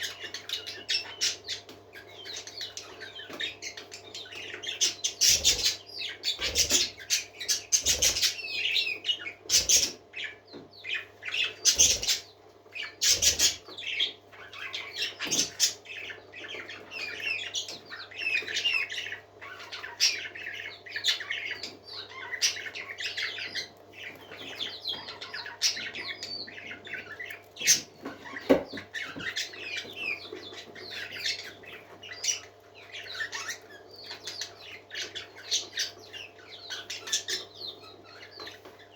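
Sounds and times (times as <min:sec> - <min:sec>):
parakeets chattering: 0:00.0 - 0:38.9.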